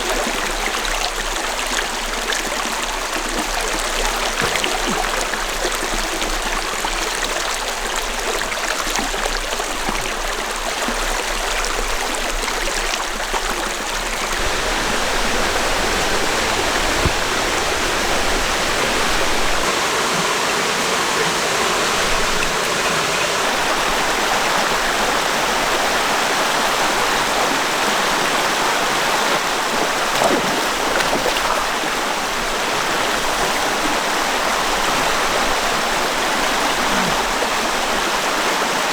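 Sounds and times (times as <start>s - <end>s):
stream running water: 0.0s - 38.9s.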